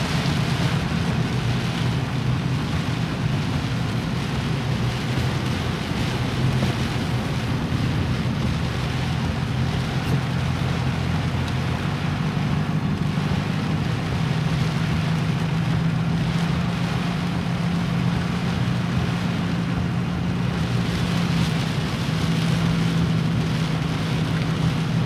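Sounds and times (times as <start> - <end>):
car engine running: 0.0 - 25.0
rushing water and rain: 0.0 - 25.0.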